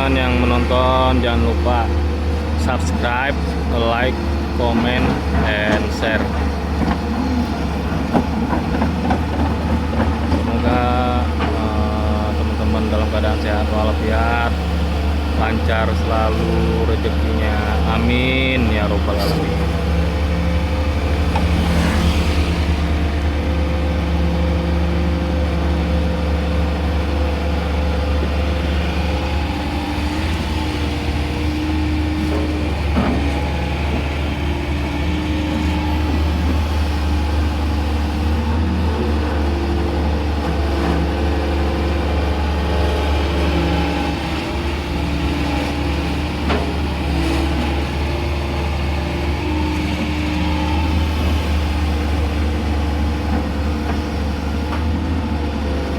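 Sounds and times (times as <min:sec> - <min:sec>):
excavator diesel engine humming: 0:00.0 - 0:55.9.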